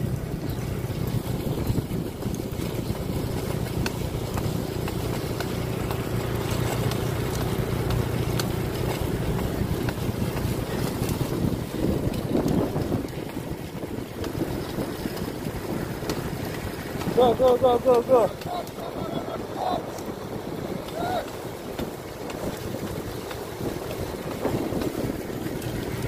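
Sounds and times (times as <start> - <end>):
motor engine humming: 0.0 - 26.0
wind rushing over microphone: 0.0 - 26.0.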